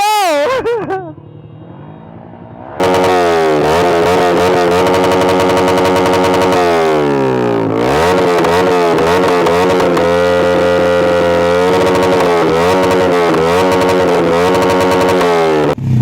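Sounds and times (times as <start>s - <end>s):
motorcycle engine revving: 0.4s - 16.0s.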